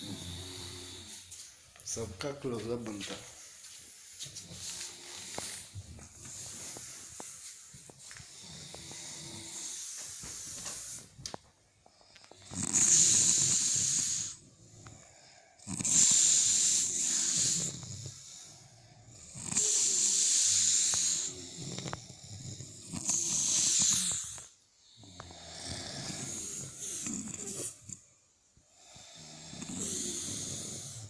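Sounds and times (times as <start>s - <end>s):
person snoring: 0.0s - 3.5s, 4.3s - 11.2s, 11.9s - 28.1s, 28.7s - 31.0s.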